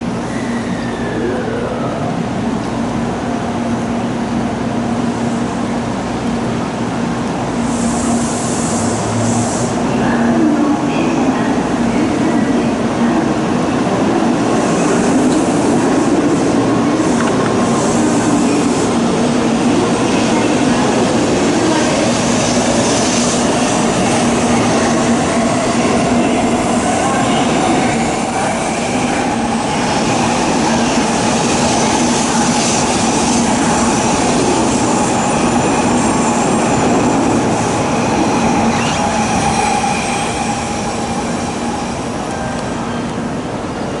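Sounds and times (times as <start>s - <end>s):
train running noise: 0.0s - 44.0s.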